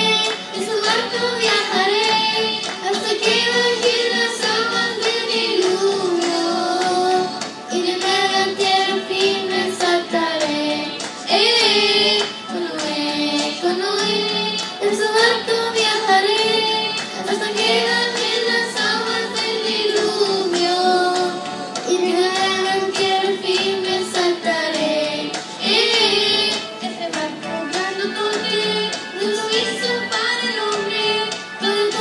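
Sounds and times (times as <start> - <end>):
girls singing worship song: 0.0 - 32.0.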